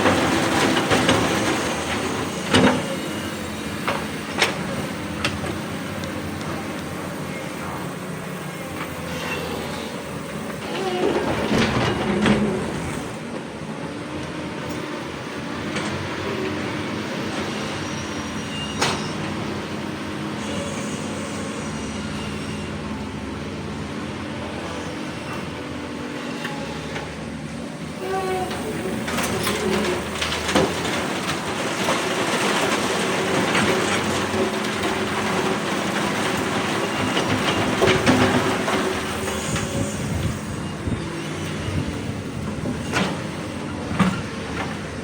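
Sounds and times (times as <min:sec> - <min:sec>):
excavator diesel engine under load: 0:00.0 - 0:18.4, 0:19.1 - 0:45.0.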